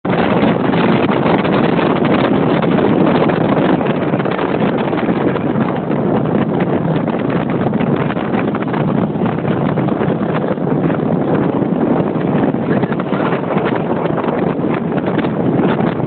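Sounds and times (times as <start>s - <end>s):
water noise: 0.0s - 16.0s
wind rushing on microphone: 0.0s - 16.0s
boat engine: 0.1s - 16.0s.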